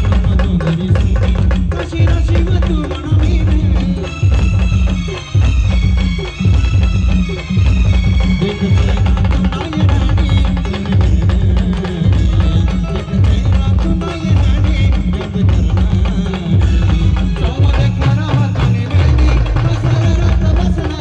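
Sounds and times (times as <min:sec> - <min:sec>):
heavy driving drum beats: 0:00.0 - 0:21.0.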